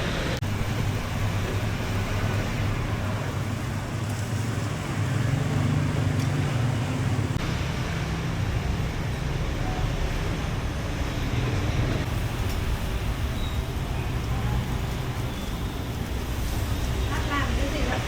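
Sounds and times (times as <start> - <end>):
traffic engines humming: 0.0 - 18.0.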